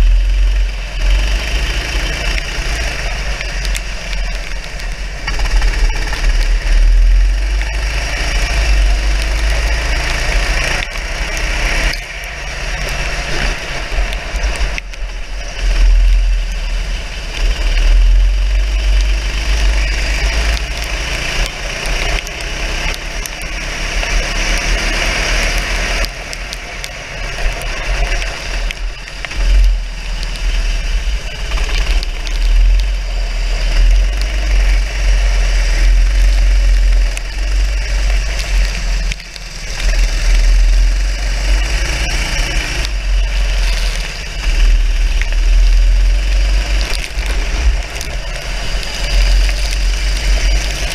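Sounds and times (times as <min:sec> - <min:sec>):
racing kart engine revving: 0:00.0 - 0:14.9, 0:15.5 - 0:50.9
heavy low rumble: 0:00.0 - 0:50.9.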